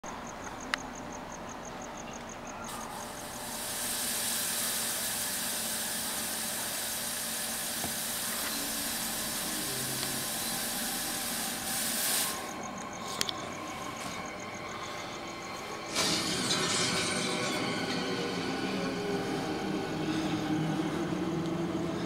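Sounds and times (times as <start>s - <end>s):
fog machine hissing: 2.6s - 22.0s.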